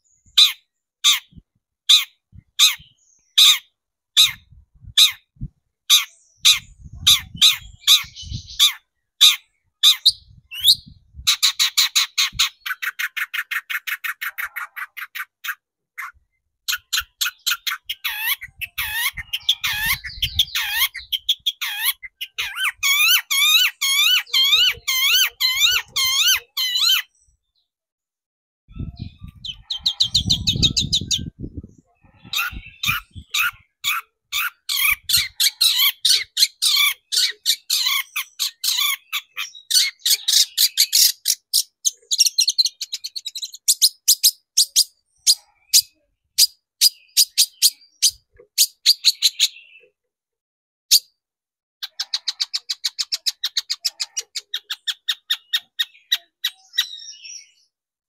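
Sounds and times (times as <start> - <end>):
bird singing sharp repeated notes: 0.0 - 27.7, 28.7 - 50.0, 51.8 - 57.7.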